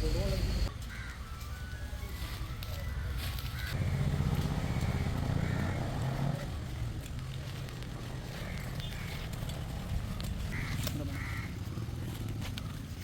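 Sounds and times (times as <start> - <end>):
engine running low rumble: 2.4 - 13.0.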